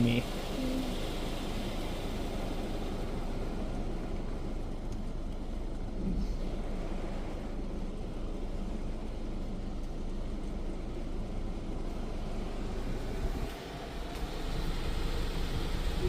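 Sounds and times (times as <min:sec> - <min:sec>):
car wash low rumble: 0:00.0 - 0:16.0
car wash spray hiss: 0:00.0 - 0:16.0.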